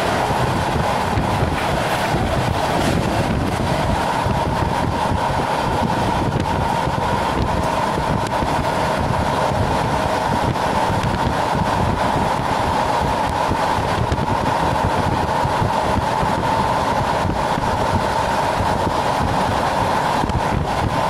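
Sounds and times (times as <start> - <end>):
railcar engine and wheels droning: 0.0 - 21.0.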